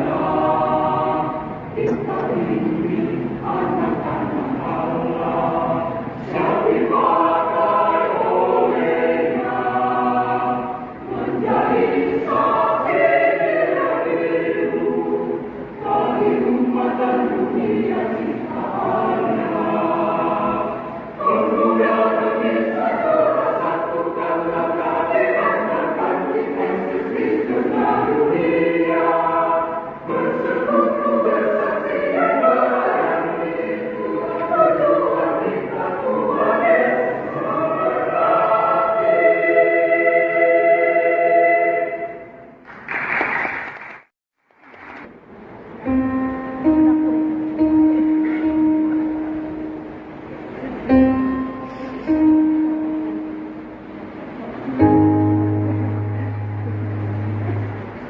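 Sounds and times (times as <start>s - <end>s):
youth choir singing: 0.0s - 42.6s, 46.1s - 58.0s.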